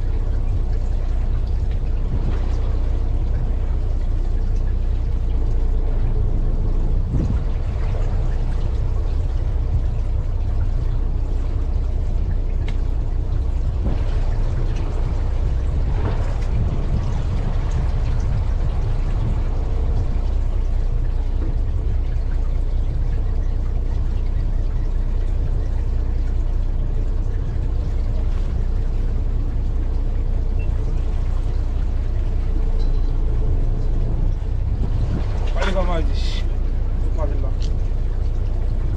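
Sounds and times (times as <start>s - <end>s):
boat engine running: 0.0s - 38.9s
water splashing against hull: 0.0s - 38.9s.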